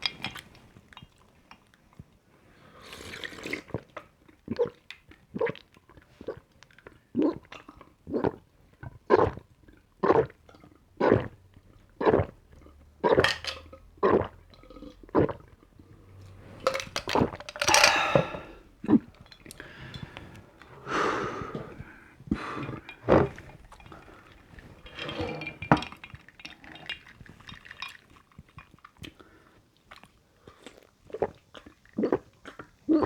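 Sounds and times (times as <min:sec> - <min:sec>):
person gulping water: 0:02.9 - 0:29.2, 0:29.9 - 0:33.0.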